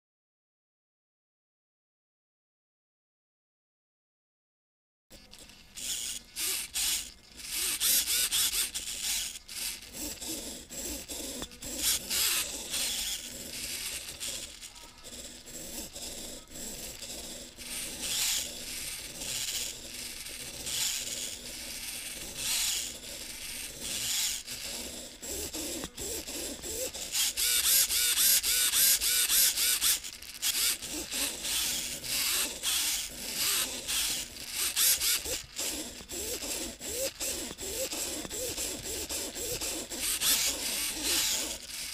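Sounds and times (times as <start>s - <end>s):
servos whirring and chattering: 5.1s - 41.9s.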